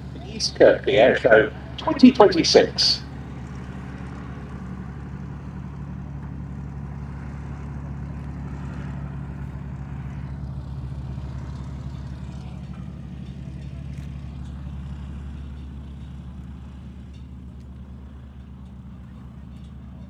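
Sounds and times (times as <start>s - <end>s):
aircraft engines droning: 0.0s - 20.0s.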